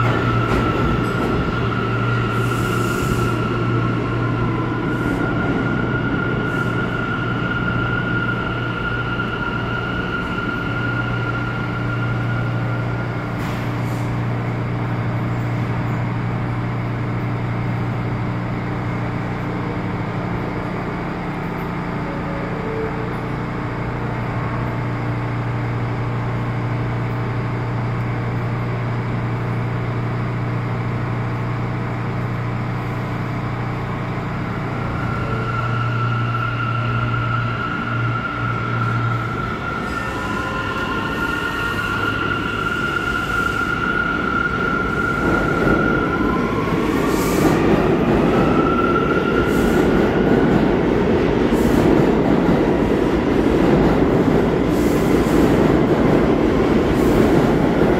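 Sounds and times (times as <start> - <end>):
subway train humming: 0.0 - 57.9
wheels rumbling on rail: 0.0 - 57.9.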